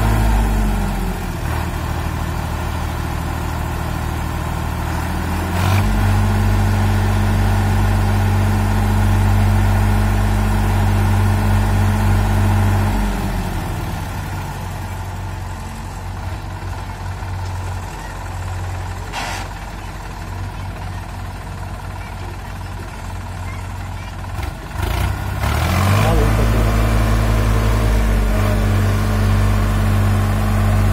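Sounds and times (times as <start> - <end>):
diesel engines running: 0.0 - 30.9.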